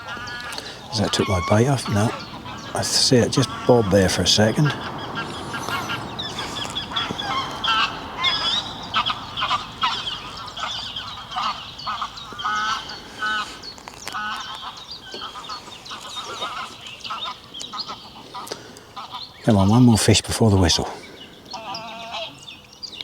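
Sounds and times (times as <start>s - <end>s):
geese honking: 0.0s - 22.7s.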